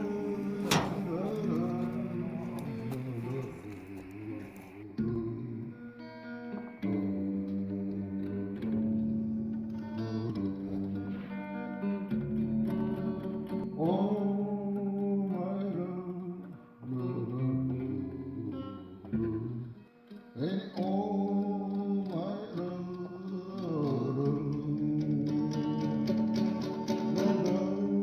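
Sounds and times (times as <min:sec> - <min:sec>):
guitar: 0:00.0 - 0:28.0
person singing: 0:00.0 - 0:28.0.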